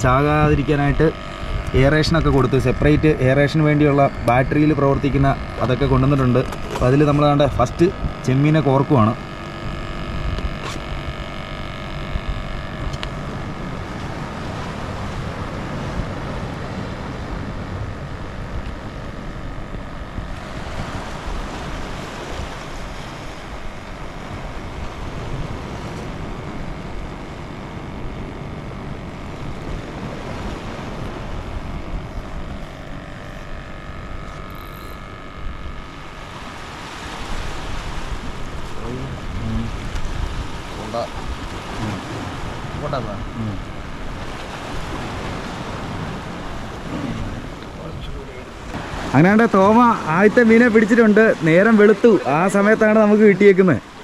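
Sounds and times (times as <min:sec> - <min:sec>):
wind buffeting microphone: 0:00.0 - 0:53.0
faint steady hum: 0:00.0 - 0:54.0
sea waves: 0:00.0 - 0:54.0.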